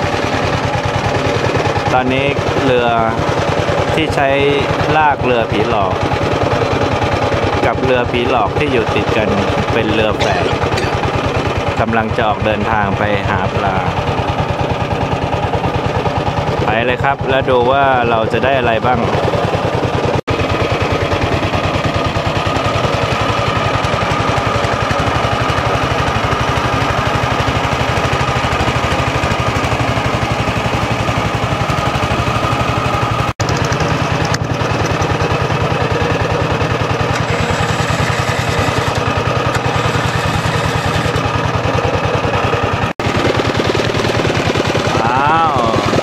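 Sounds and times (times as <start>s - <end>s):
boat engine running: 0.0s - 46.0s.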